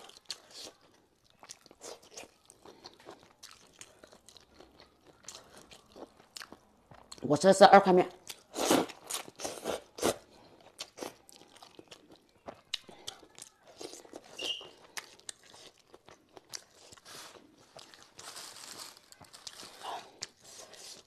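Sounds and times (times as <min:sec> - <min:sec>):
wet chewing: 0:00.0 - 0:07.2, 0:08.2 - 0:21.0.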